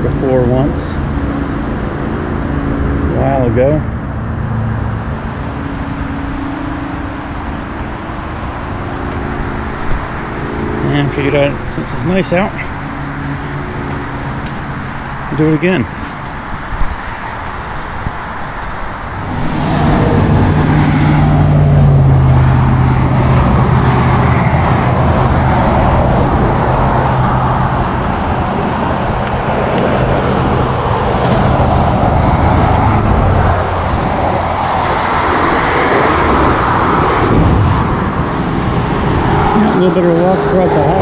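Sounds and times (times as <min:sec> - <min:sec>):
highway traffic rushing: 0:00.0 - 0:41.0.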